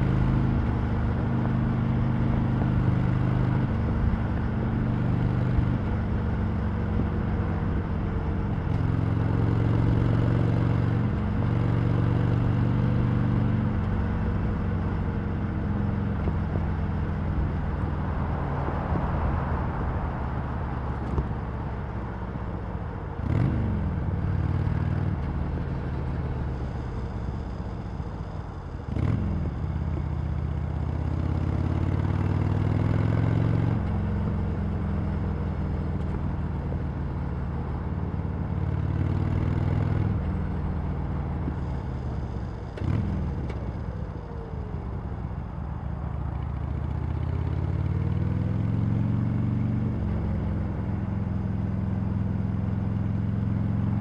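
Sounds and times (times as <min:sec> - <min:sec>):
motorcycle engine under way: 0:00.0 - 0:17.3, 0:23.2 - 0:54.0.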